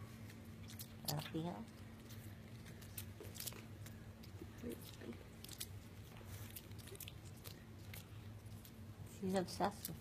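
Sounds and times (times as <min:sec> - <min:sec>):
dog licking and biting: 0:00.3 - 0:10.0.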